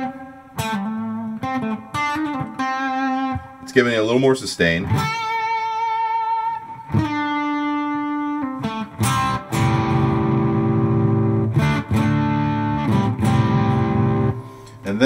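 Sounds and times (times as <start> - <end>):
overdriven electric guitar: 0.0 - 15.0.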